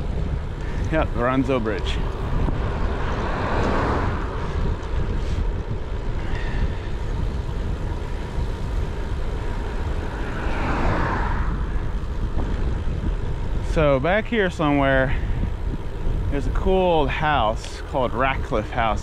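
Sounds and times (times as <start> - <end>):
vehicles passing: 0.0 - 19.0
wind rushing over microphone: 0.0 - 19.0.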